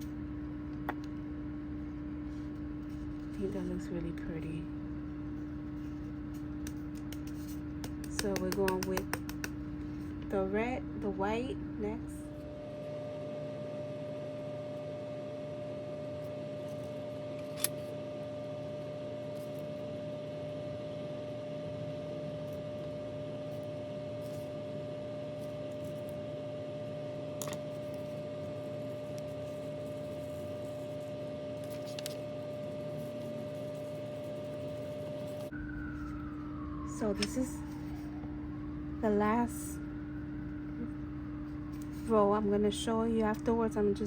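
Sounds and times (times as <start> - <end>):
appliance hum: 0.0 - 44.0.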